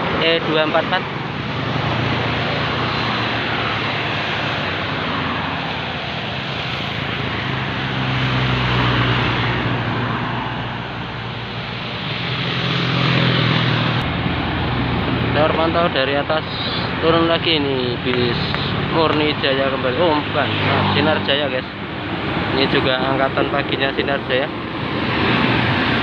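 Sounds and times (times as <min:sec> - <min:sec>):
bus diesel engine drone: 0:00.0 - 0:26.0
tyre and road noise: 0:00.0 - 0:26.0.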